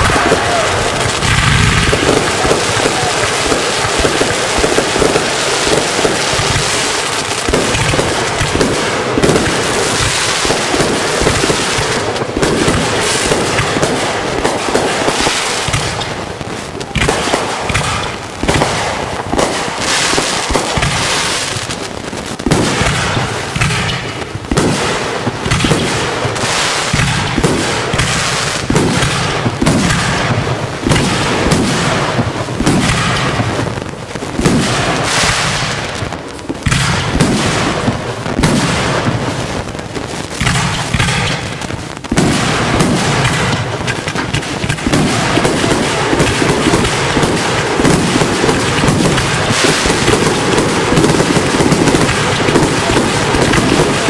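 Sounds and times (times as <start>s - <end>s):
fireworks launching and bursting: 0.0s - 54.0s.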